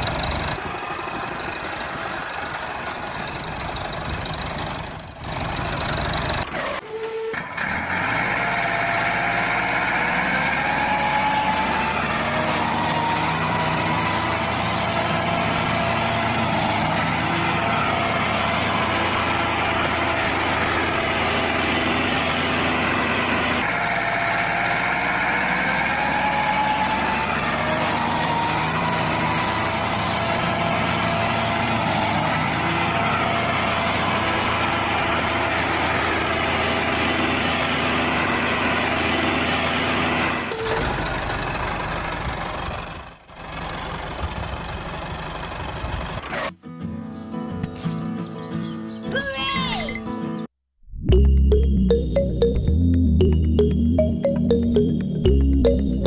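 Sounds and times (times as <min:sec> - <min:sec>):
tractor engine running: 0:00.0 - 0:46.5, 0:51.1 - 0:56.0.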